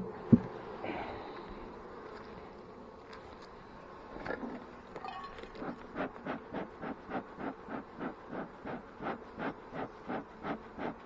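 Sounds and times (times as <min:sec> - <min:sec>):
honey bees humming: 0:00.0 - 0:11.0.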